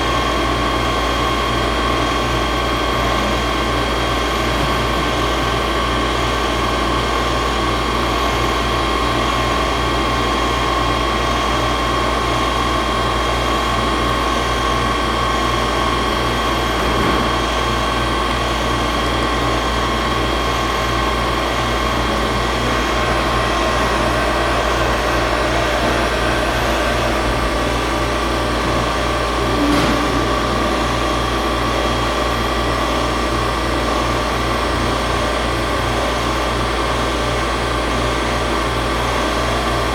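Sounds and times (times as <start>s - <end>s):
milling machine hum and whine: 0.0s - 39.9s.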